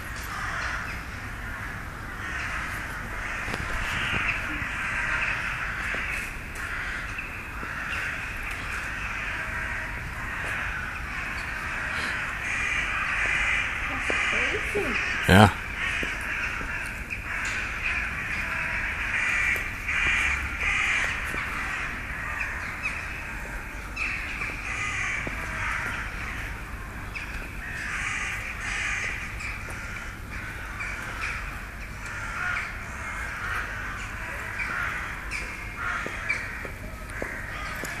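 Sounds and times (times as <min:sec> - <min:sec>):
flock of crows cawing: 0:00.0 - 0:38.0.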